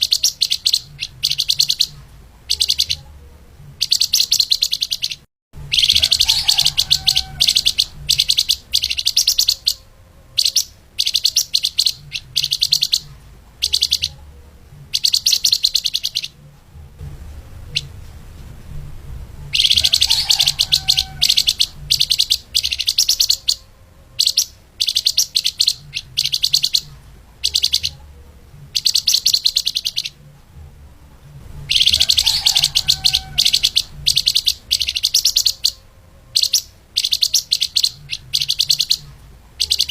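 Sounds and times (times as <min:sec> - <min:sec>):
songbird chattering trills: 0:00.0 - 0:03.1, 0:03.8 - 0:14.2, 0:14.9 - 0:16.4, 0:19.5 - 0:28.0, 0:28.7 - 0:30.2, 0:31.7 - 0:39.9.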